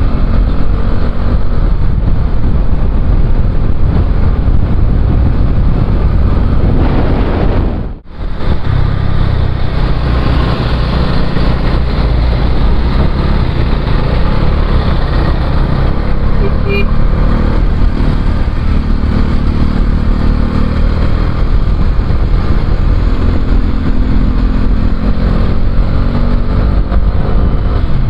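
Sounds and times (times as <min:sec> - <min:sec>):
motorcycle engine: 0:00.0 - 0:28.0
wind rumble on microphone: 0:00.0 - 0:28.0.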